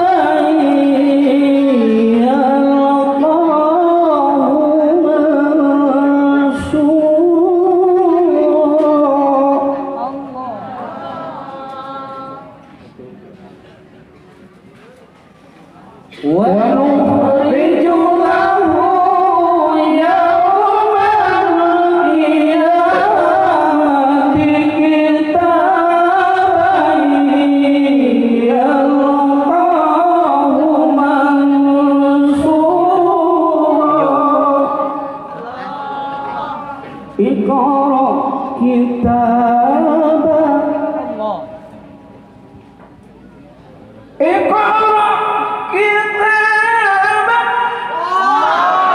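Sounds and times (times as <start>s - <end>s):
man chanting into a microphone: 0.0s - 10.5s, 16.2s - 41.8s, 44.2s - 48.0s.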